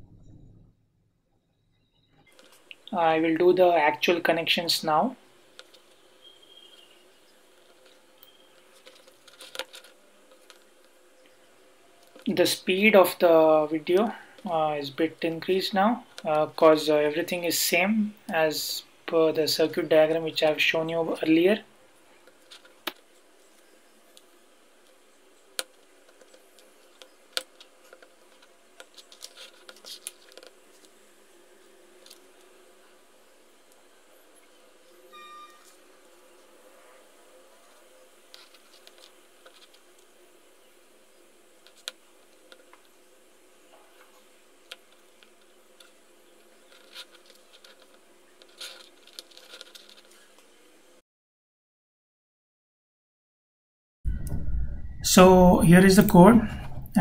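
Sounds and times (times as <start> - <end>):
low background hiss: 2.3 - 51.0, 55.0 - 57.0.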